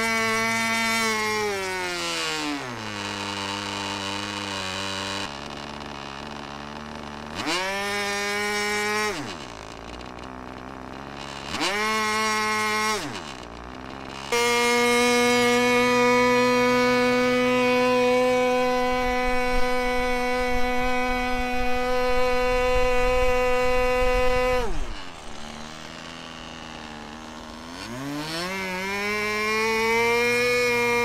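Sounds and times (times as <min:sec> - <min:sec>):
model airplane engine revving: 0:00.0 - 0:31.0.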